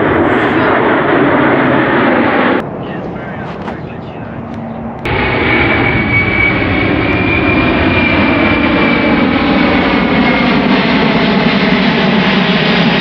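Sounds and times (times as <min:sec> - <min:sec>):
high engine whine: 0:00.0 - 0:13.0
jet aircraft flying past overhead: 0:00.0 - 0:13.0.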